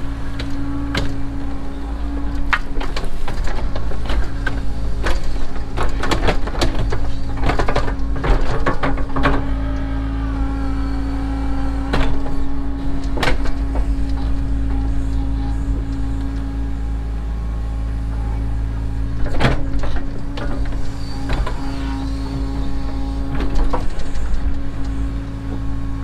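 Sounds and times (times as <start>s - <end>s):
excavator diesel engine: 0.0s - 26.0s
hydraulic whine: 0.0s - 26.0s.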